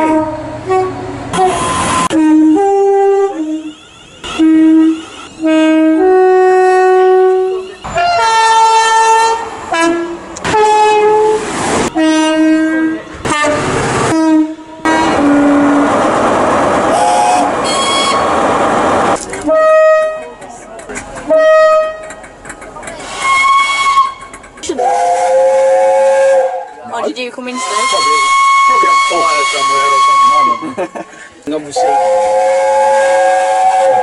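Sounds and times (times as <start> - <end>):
two-tone train horn blasts: 0.0 - 16.0, 16.9 - 18.3, 19.4 - 20.4, 21.3 - 22.2, 23.2 - 26.8, 27.5 - 30.8, 31.8 - 34.0
passing train rumble: 0.0 - 34.0.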